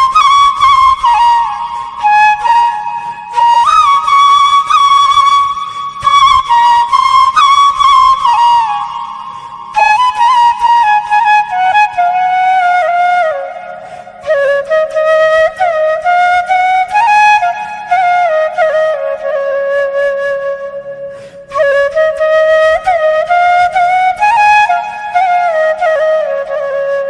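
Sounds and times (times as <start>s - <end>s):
flute melody: 0.0s - 27.0s.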